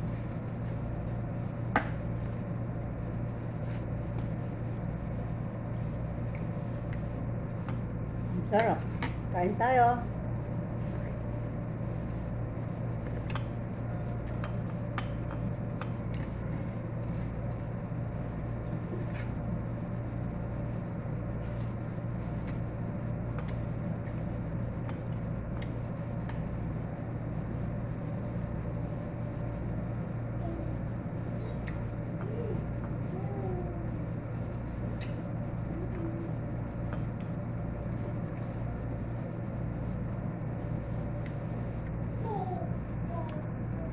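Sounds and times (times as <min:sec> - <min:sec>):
fan humming: 0:00.0 - 0:43.9.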